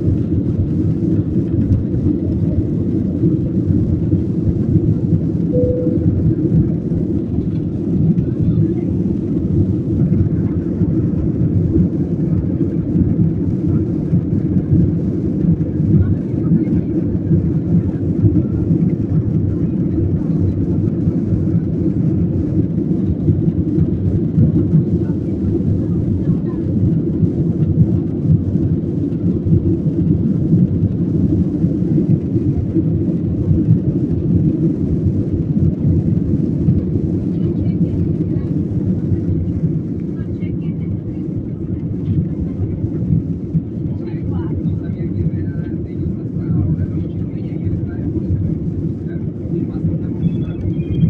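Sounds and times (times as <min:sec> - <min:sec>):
airliner cabin engine rumble: 0:00.0 - 0:51.0.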